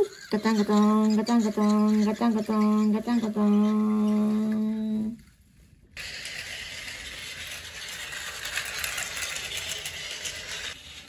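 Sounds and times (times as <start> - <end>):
toy train wheel rattle: 0.0 - 5.2, 6.0 - 11.0
toy train motor whir: 0.0 - 5.3, 6.0 - 11.0.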